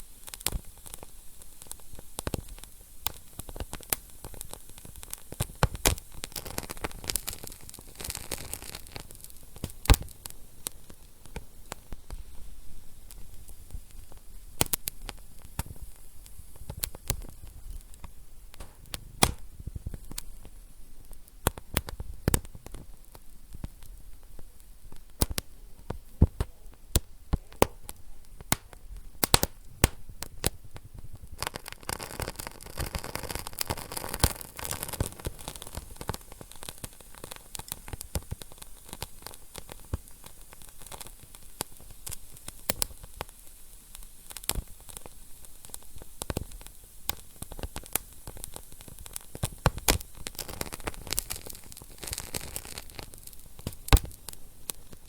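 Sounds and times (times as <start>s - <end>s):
steady hiss: 0.0s - 55.0s
wood fire crackling and popping: 0.0s - 55.0s.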